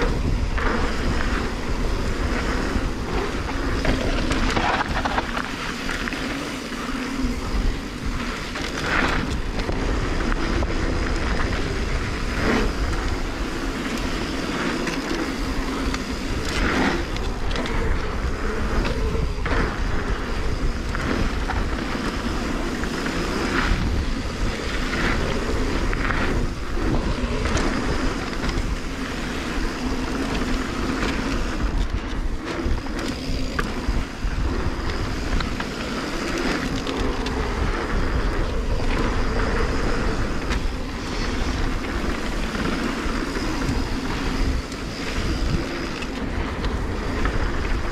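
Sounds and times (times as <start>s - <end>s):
bike knocking and rattling: 0.0s - 47.9s
bike tyres on gravel: 0.0s - 47.9s.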